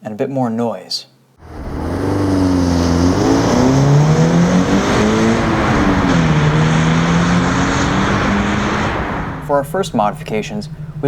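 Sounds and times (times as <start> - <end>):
car engine accelerating: 1.4 - 11.0
road and wind noise: 1.4 - 11.0.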